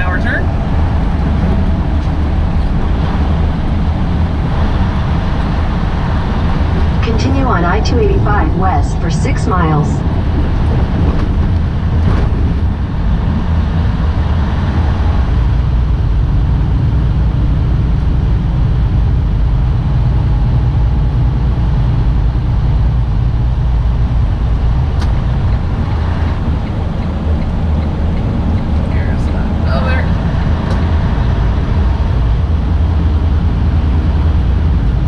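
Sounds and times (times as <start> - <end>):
road noise: 0.0 - 35.0
truck engine rumble: 0.0 - 35.0.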